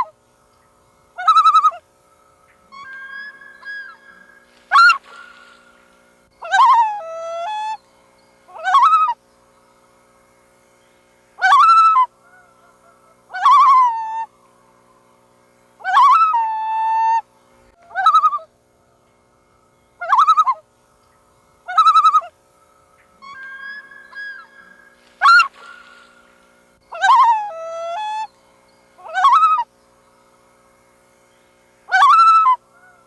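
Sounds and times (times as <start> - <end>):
faint steady hum: 0.0 - 33.0
loons calling: 0.0 - 33.0.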